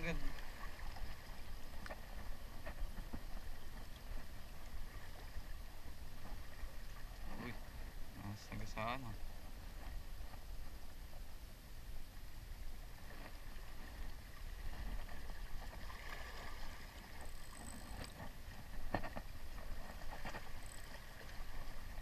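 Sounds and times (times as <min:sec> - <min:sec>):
small waves lapping against rocks: 0:00.0 - 0:10.7, 0:12.8 - 0:22.0.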